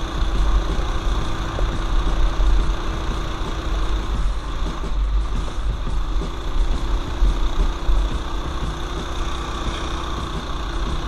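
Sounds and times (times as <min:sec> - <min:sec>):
mini bike engine rumbling: 0:00.0 - 0:11.0.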